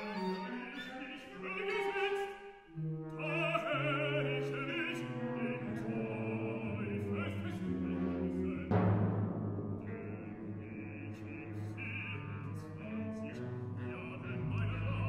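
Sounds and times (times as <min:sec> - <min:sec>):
operatic baritone singing: 0:00.0 - 0:15.0.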